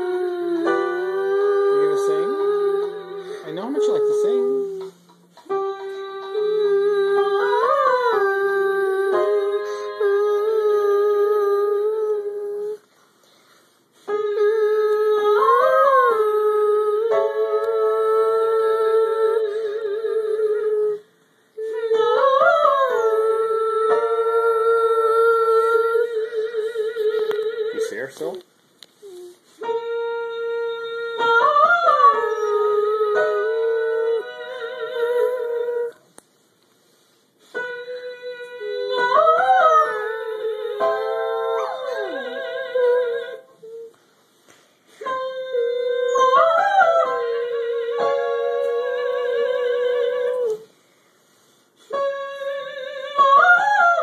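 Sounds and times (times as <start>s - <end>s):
woman singing vocal warm-ups: 0.0s - 13.0s, 14.0s - 28.4s, 29.0s - 36.1s, 37.4s - 44.0s, 44.9s - 54.0s.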